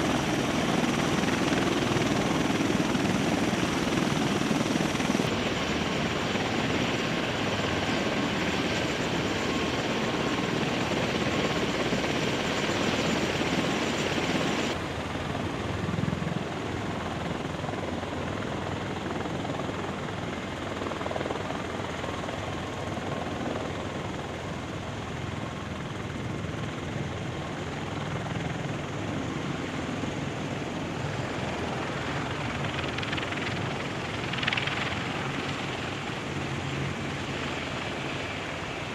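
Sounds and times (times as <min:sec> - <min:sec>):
helicopter turbines and rotors: 0:00.0 - 0:38.9.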